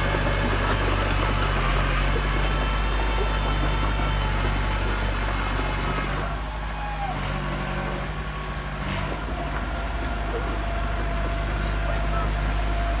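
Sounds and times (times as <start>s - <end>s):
heavy machine engine running: 0.0s - 13.0s.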